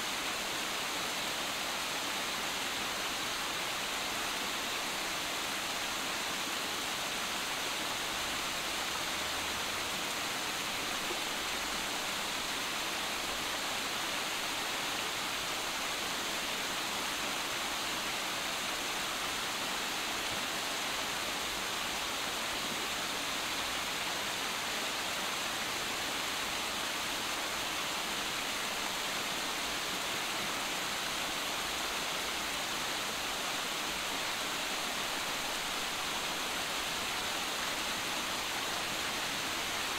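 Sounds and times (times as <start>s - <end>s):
waterfalls splashing over rocks: 0.0s - 39.9s.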